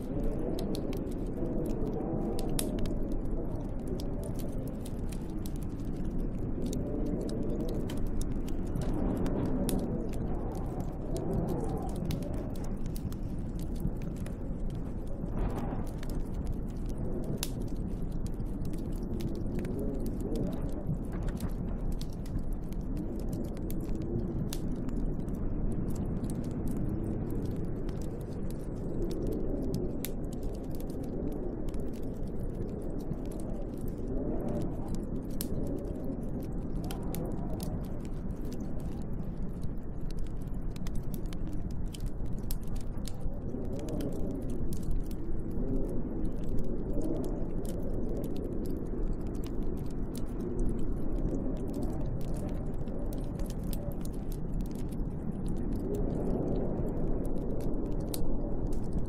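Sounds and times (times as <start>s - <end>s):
storm wind gusting: 0.0s - 59.0s
wood fire crackling: 0.0s - 59.0s.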